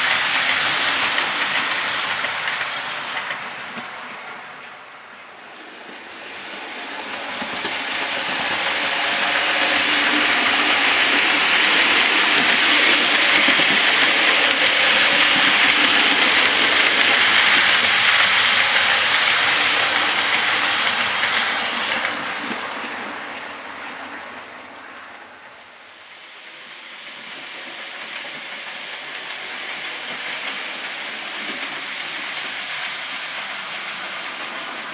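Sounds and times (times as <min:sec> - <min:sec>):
model train wheels rattling on rail: 0:00.0 - 0:04.6, 0:05.5 - 0:23.1, 0:26.4 - 0:34.9.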